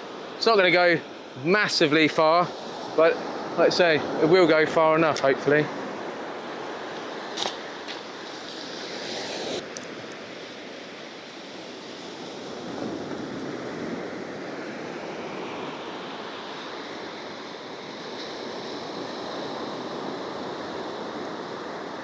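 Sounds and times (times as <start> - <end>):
sea surf washing onto beach: 0.0 - 22.0.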